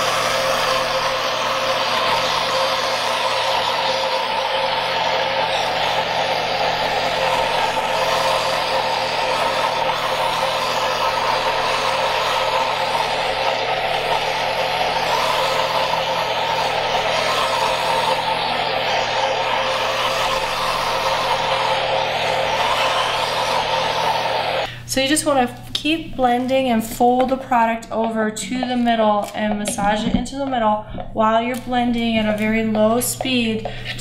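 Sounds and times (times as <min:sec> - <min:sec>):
blender motor churning paste: 0:00.0 - 0:27.4, 0:28.5 - 0:34.0.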